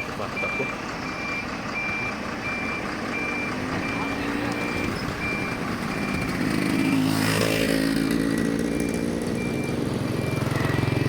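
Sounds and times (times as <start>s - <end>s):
high electronic warning beeps: 0.0s - 11.0s.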